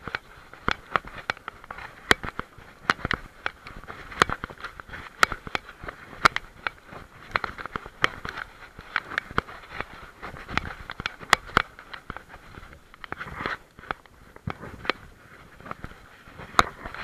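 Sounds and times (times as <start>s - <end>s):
camera knocking and rattling: 0.0s - 17.0s.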